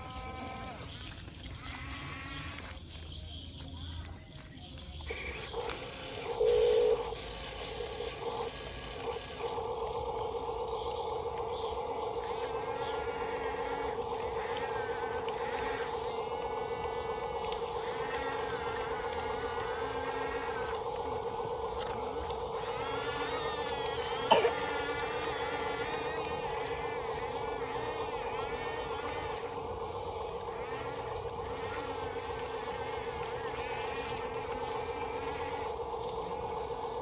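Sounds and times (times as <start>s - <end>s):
electric motor whine: 0.0s - 37.0s.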